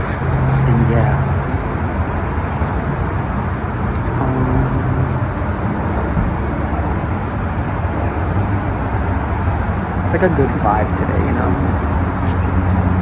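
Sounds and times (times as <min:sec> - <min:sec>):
road traffic rumble: 0:00.0 - 0:13.0
vehicle engine low hum: 0:00.0 - 0:13.0.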